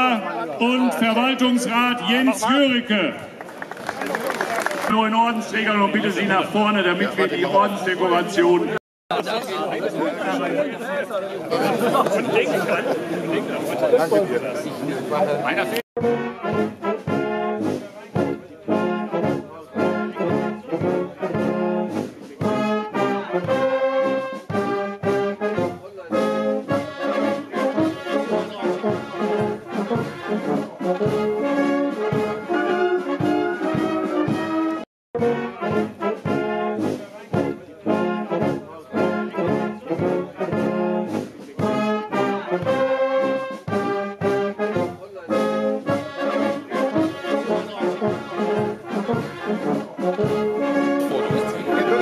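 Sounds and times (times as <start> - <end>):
brass band playing: 0.0 - 3.4, 4.1 - 52.0.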